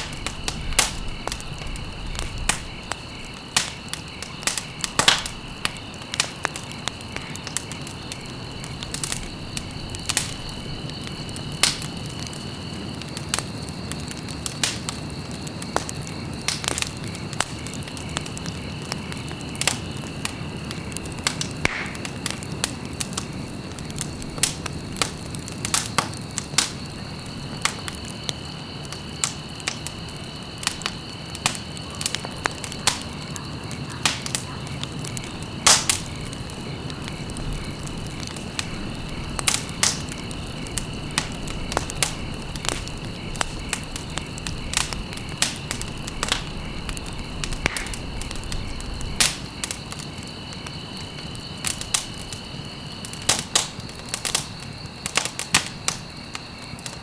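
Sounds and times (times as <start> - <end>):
soft rush of flames: 0.0 - 57.0
wood fire popping and snapping: 0.0 - 57.0.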